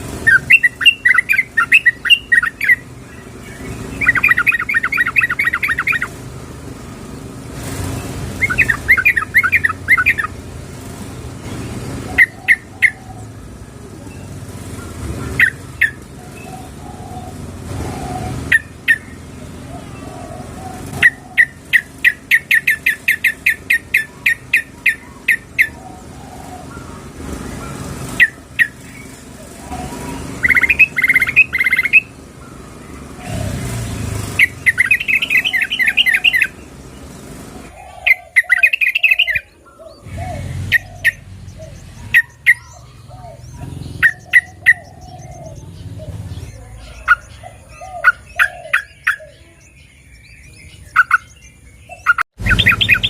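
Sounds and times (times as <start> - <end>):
bulbul calling: 0.0 - 6.3, 7.1 - 53.0.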